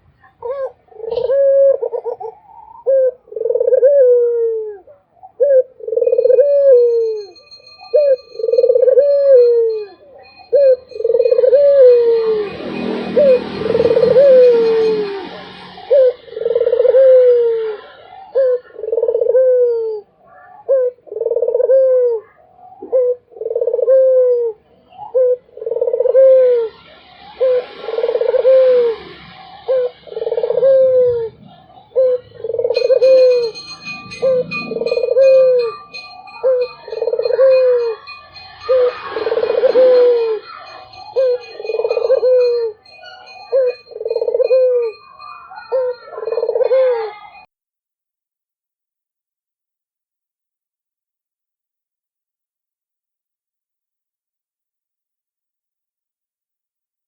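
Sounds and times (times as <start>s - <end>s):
dove cooing: 0.0s - 47.5s.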